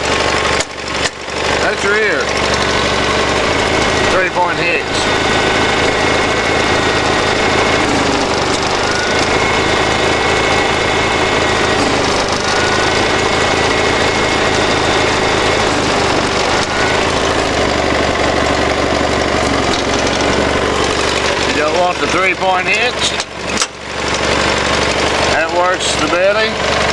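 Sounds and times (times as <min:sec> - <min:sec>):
garden tractor engine running: 0:00.0 - 0:26.9.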